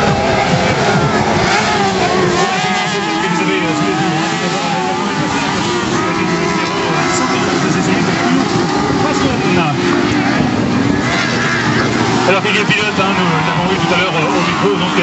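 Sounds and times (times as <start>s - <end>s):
buggy engines revving: 0.0s - 15.0s.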